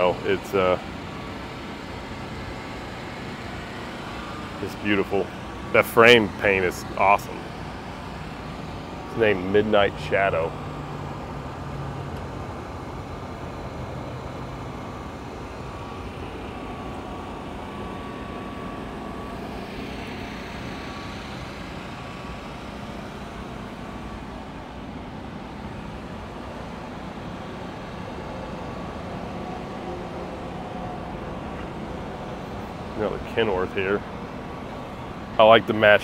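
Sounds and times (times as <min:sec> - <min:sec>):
vehicle engines humming: 0:00.0 - 0:36.0.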